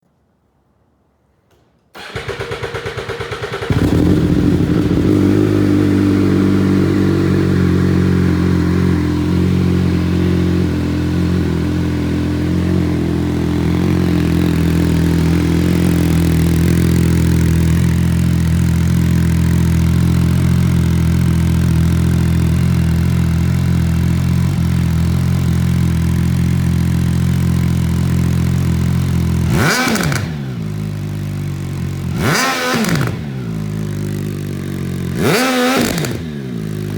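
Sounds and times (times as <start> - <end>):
motorcycle engine revving: 2.0 - 36.9.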